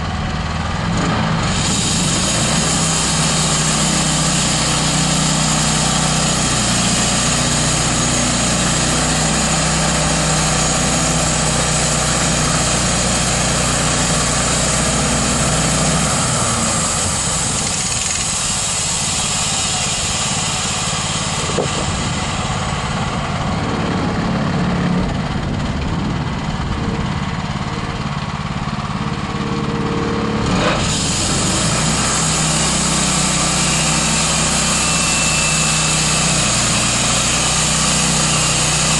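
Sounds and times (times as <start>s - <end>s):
gasoline engine running: 0.0s - 38.9s.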